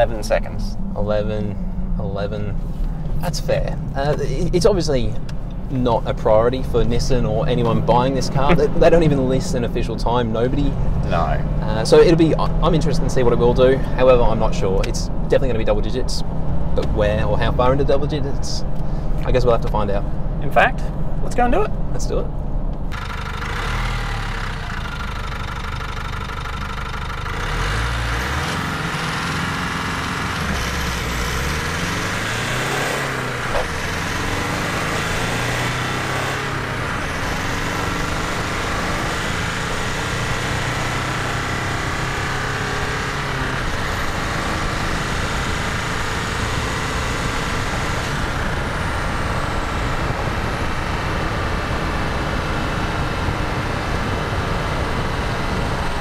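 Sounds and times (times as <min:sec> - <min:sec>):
diesel engine accelerating: 0:00.0 - 0:56.0.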